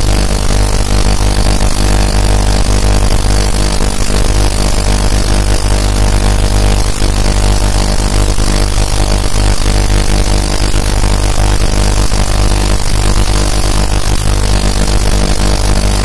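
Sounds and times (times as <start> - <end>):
ultrasonic cleaner buzzing: 0.0 - 16.0.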